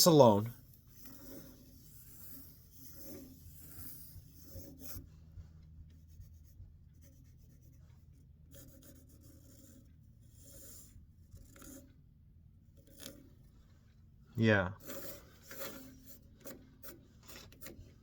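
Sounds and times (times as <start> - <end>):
pencil scratching on wood: 0.0 - 14.0, 14.8 - 18.0.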